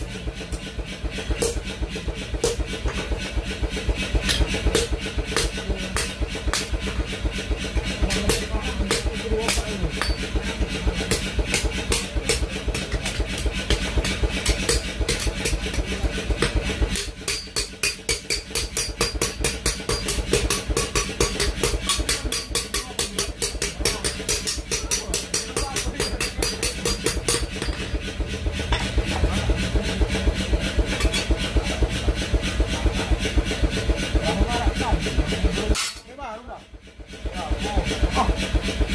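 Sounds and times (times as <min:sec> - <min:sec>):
steady machine hum: 0:00.0 - 0:38.9.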